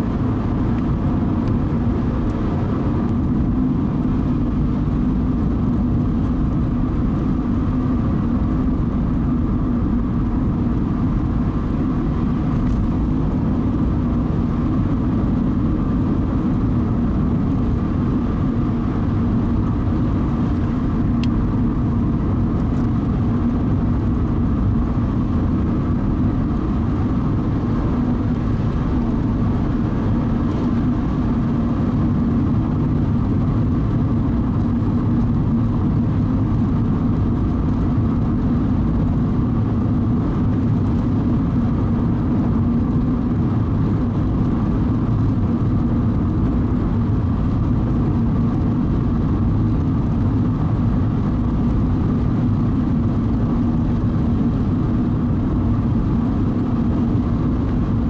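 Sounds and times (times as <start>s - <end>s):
car engine hum: 0.0s - 58.0s.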